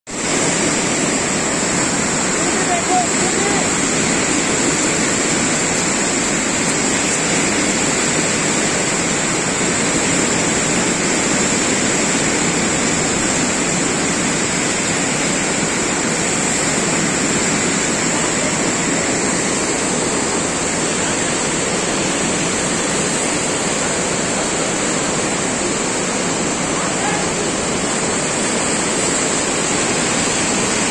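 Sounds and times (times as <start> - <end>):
floodwater rushing: 0.1 - 30.9.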